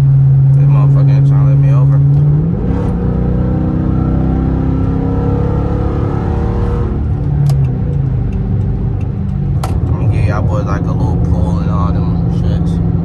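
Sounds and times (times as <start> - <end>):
car exhaust droning: 0.0 - 13.0.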